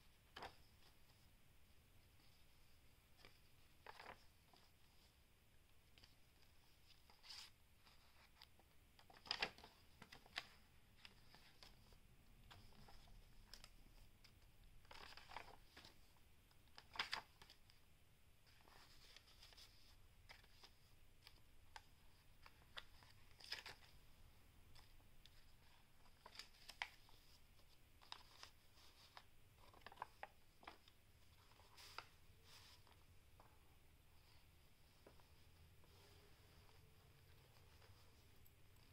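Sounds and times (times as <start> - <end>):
paper pages rustling: 2.2 - 5.1, 5.9 - 17.8, 18.4 - 24.0, 24.7 - 33.6, 34.2 - 38.9.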